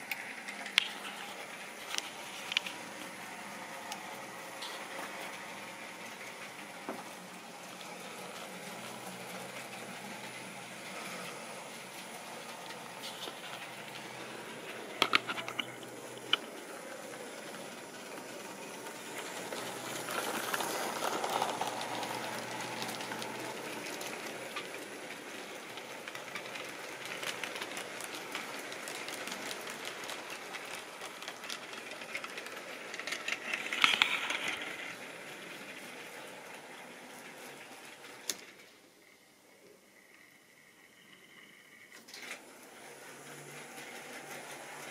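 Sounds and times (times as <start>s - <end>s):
model train motor whirring: 0.0s - 44.9s.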